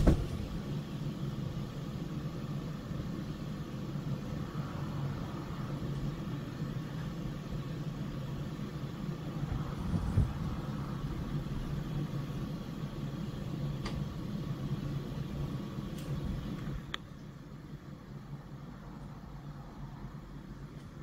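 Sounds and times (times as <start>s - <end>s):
appliance motor hum: 0.0s - 21.0s.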